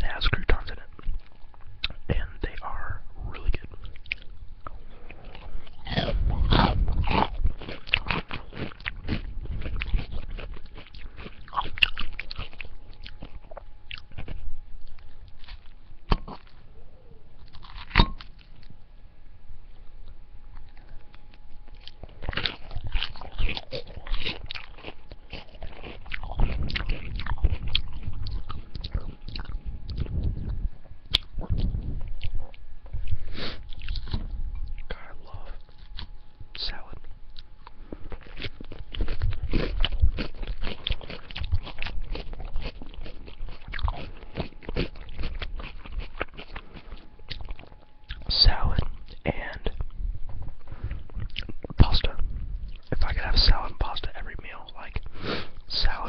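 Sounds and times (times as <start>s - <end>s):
salad crunching while chewed: 3.5s - 16.6s, 17.4s - 18.8s, 20.0s - 54.0s.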